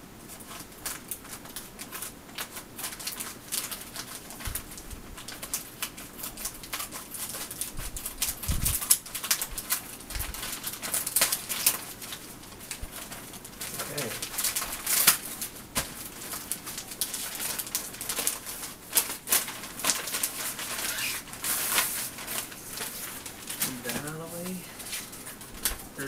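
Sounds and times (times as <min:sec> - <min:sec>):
envelope crinkling and tearing: 0:00.3 - 0:26.0.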